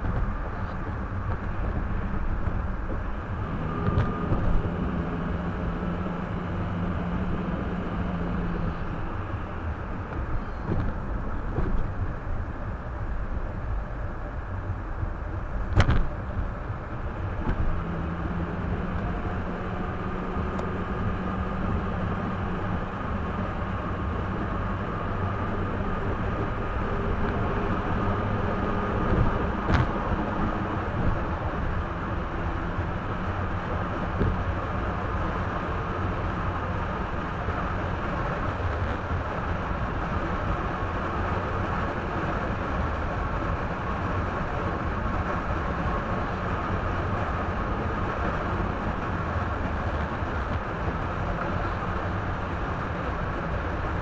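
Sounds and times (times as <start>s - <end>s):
car engine running: 0.0s - 54.0s
tyre and road noise: 0.0s - 54.0s.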